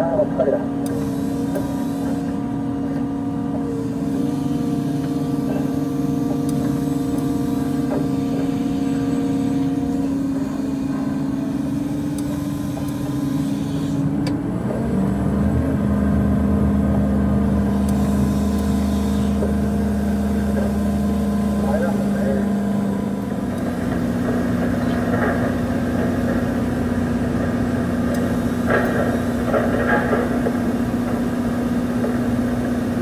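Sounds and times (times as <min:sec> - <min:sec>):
crane diesel engine: 0:00.0 - 0:33.0
hydraulic whine: 0:00.0 - 0:33.0.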